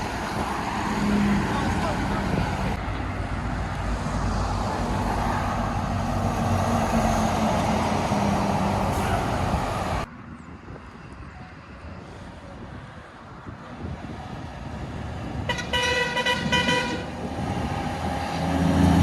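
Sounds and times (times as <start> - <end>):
road and tyre noise: 0.0 - 19.0.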